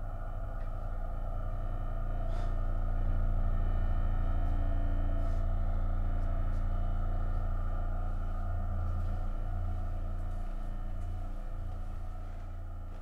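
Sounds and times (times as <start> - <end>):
low synthesized drone: 0.0 - 13.0.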